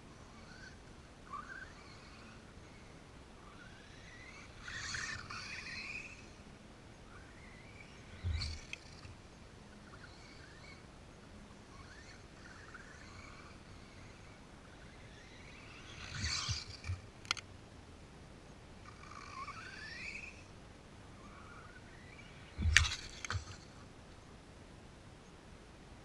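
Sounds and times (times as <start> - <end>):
small birds chirping: 0.0 - 17.5, 18.4 - 24.4.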